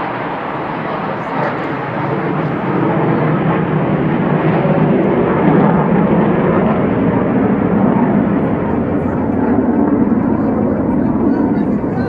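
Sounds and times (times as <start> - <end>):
aircraft flying overhead: 0.0 - 12.0.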